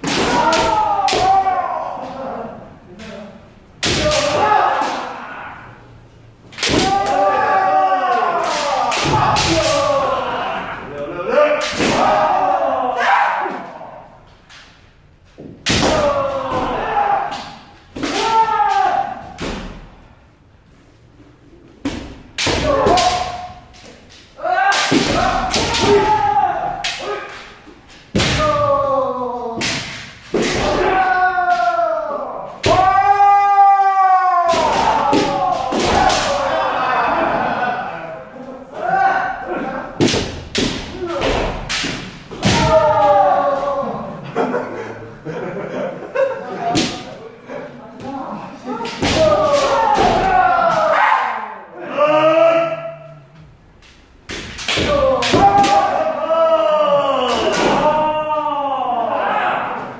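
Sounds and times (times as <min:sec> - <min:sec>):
loud drawn-out shouts: 0:00.0 - 0:14.4, 0:15.6 - 0:20.2, 0:22.4 - 0:44.4, 0:48.1 - 0:53.5, 0:54.6 - 0:59.9.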